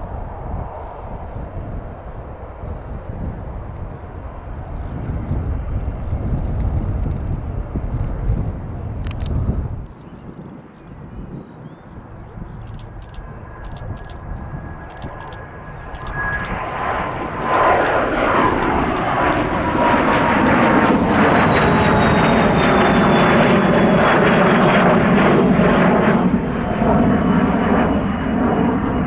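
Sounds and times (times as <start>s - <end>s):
high jet engine whine: 0.0s - 29.0s
jet rumble: 0.0s - 29.0s.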